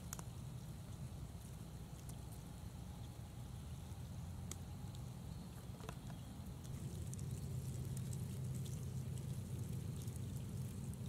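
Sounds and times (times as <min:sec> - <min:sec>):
insects pattering over bark: 0:00.0 - 0:11.0
steady low rumble: 0:00.0 - 0:11.0.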